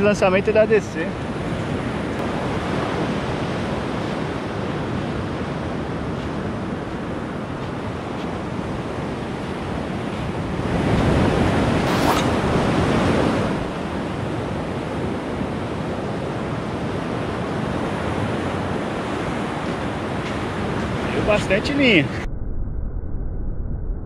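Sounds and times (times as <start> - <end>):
ocean surf breaking on beach: 1.0 - 22.1.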